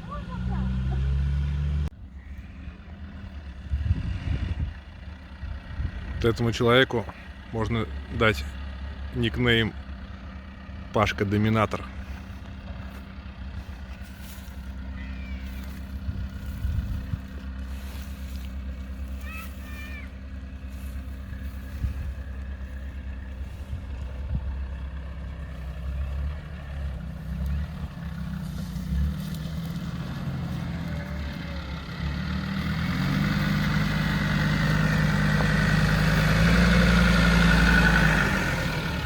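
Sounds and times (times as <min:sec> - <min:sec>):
off-road vehicle engine running: 0:00.0 - 0:39.0.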